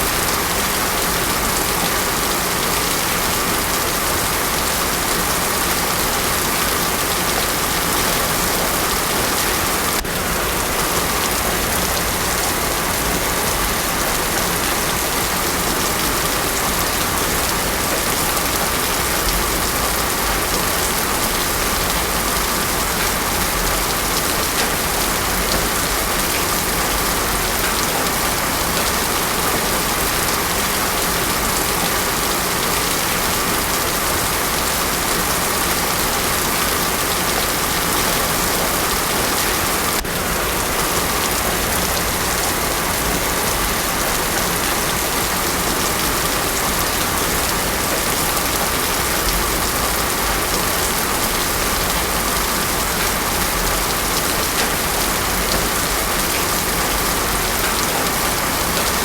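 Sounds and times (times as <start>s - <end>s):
heavy rain on paved road: 0.0s - 59.0s.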